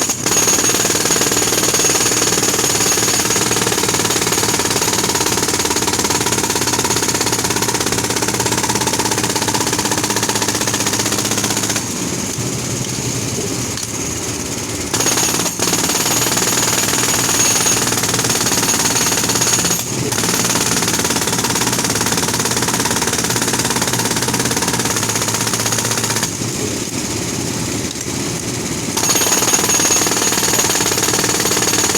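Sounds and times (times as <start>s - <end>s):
road drill hammering: 0.0s - 12.2s, 14.9s - 26.6s, 28.9s - 31.9s.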